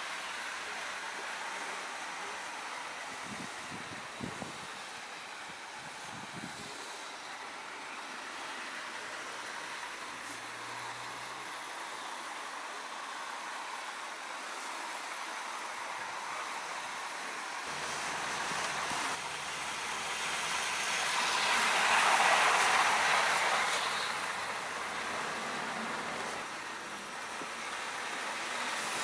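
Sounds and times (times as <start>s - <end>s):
model train whirring on track: 0.0s - 29.0s.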